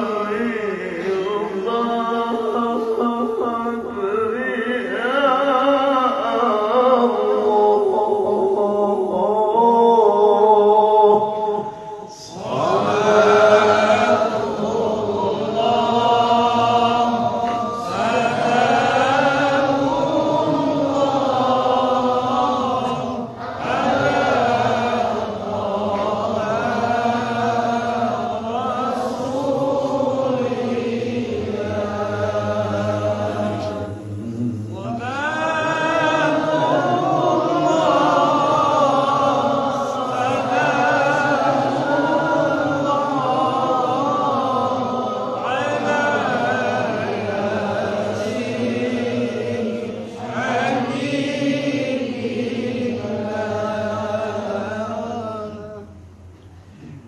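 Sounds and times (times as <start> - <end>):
person chanting recitation: 0.0 - 57.0.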